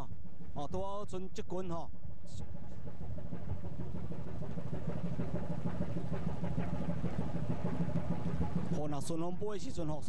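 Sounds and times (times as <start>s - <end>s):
ship engine humming: 1.9s - 10.0s.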